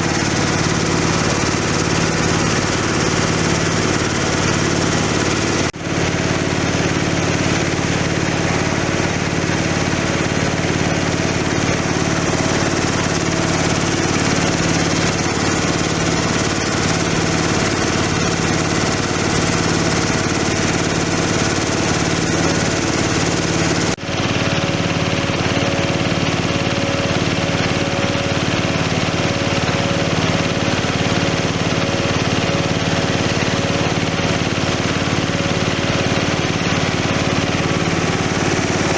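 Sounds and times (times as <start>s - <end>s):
grinding machine droning: 0.0s - 38.9s.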